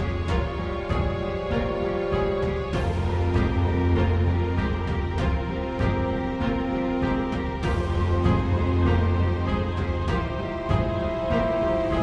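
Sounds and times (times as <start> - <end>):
held chords background music: 0.0 - 12.0.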